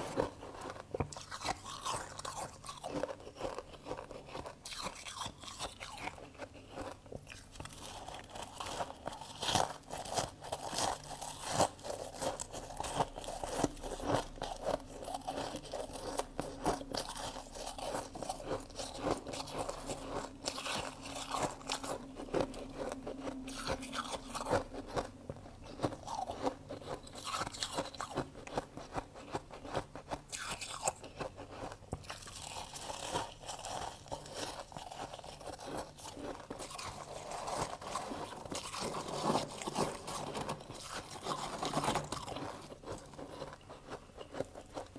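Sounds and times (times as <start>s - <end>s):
person crunching frost: 0.0s - 44.9s.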